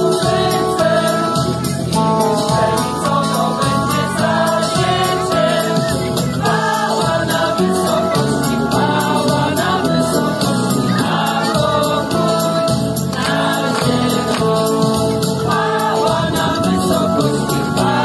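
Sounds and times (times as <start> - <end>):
women's choir singing: 0.0 - 1.6, 2.2 - 18.0
music with steady beat: 0.0 - 18.0.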